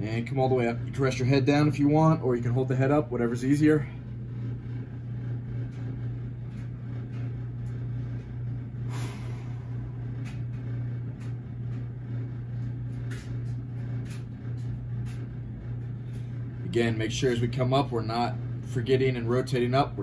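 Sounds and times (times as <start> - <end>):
low hum of room tone: 0.0 - 20.0.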